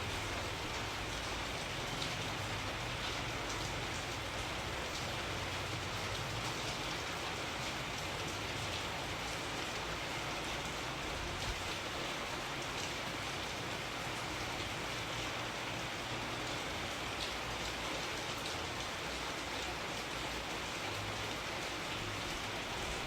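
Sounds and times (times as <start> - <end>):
rain pattering on a surface: 0.0 - 23.0.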